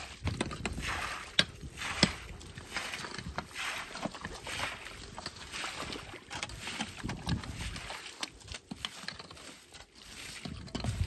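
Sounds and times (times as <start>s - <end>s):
shovels scraping wet mud and gravel: 0.0s - 11.0s.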